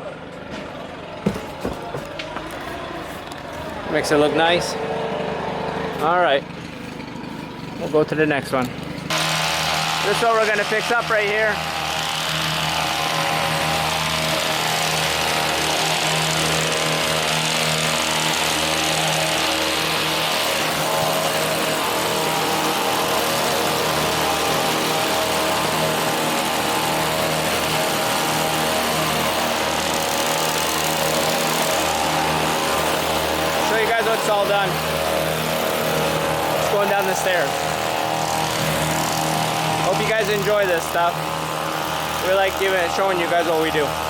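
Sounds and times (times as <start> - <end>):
hedge trimmer running: 0.2 - 44.0.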